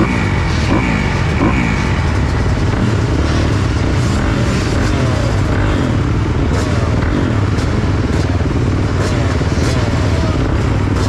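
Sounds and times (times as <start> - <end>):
motocross bikes idling: 0.0 - 11.0.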